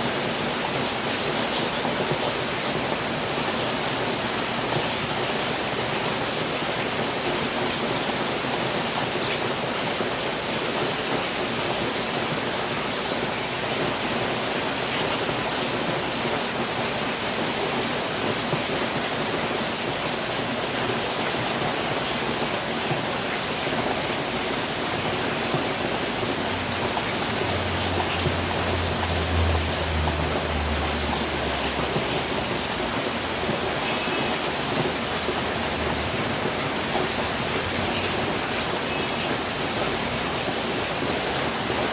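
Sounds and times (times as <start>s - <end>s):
rain on a roof: 0.0s - 41.9s.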